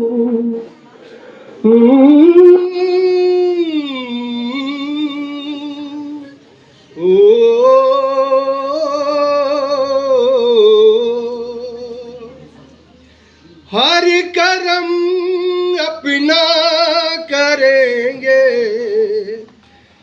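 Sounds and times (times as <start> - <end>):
man singing long notes: 0.0 - 0.7, 1.6 - 6.4, 7.0 - 12.4, 13.7 - 19.5.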